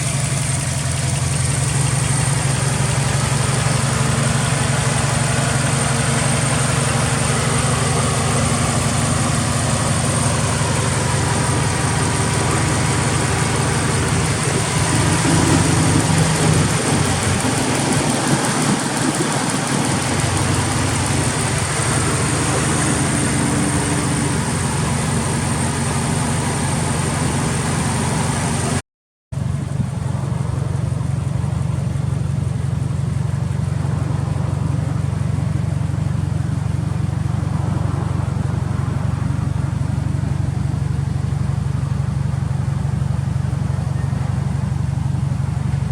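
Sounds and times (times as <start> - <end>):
car engine idling: 0.0 - 28.8, 29.4 - 45.9.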